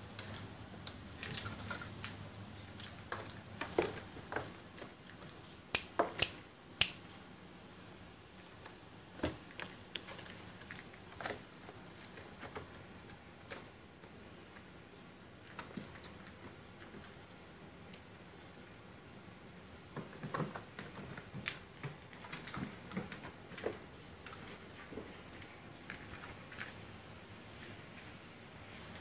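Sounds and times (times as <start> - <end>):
kittens clicking and scratching: 0.0 - 7.1, 8.3 - 28.1.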